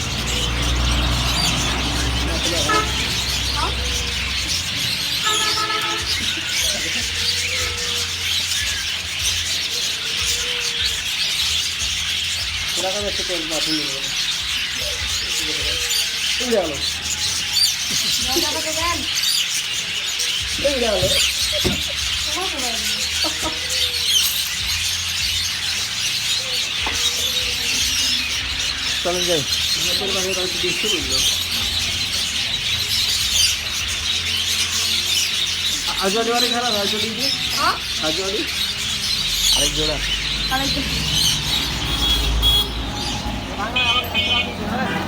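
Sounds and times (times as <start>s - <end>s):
budgerigars chattering: 0.0s - 45.0s.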